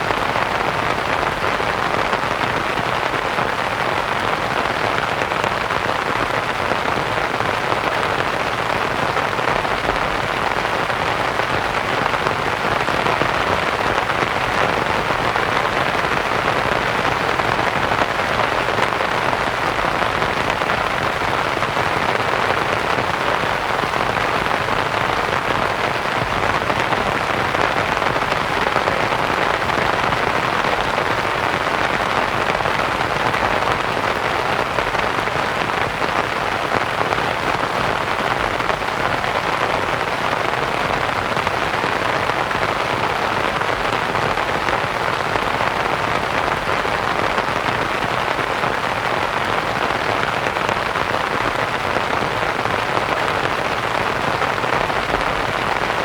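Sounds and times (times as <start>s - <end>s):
rain on a canvas tent: 0.0s - 56.0s.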